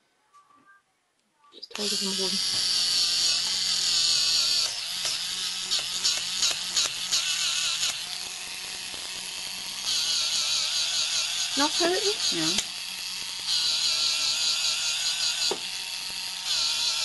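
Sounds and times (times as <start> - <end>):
electric nail buffer whining: 1.7 - 17.0.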